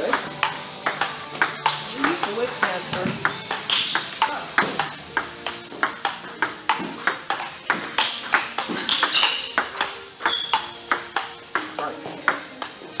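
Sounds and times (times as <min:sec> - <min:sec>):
ping pong ball clicks: 0:00.0 - 0:13.0.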